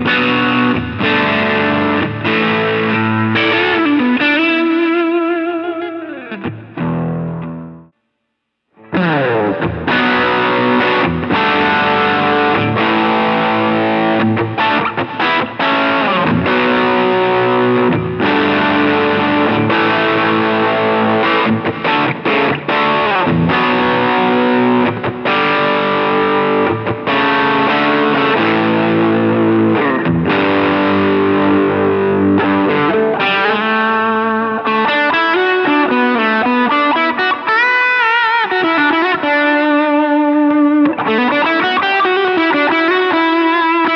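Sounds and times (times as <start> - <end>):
guitar lead with bending notes: 0.0 - 7.9, 8.8 - 43.9
distorted electric guitar riff: 0.0 - 43.9.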